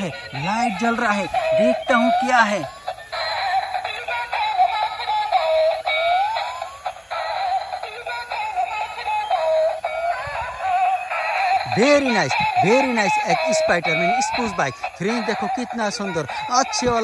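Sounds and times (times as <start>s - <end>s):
toy electronic tune: 0.0s - 17.0s.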